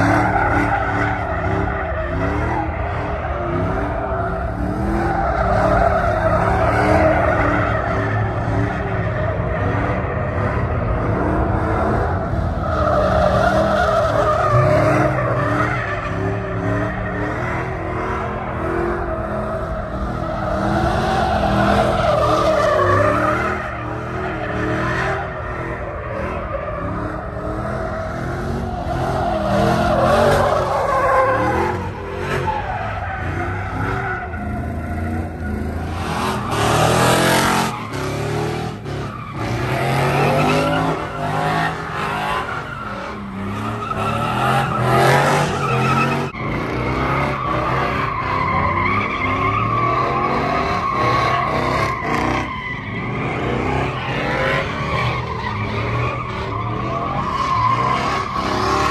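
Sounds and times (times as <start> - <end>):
engines revving high: 0.0 - 58.9
tyres squealing on asphalt: 0.0 - 58.9.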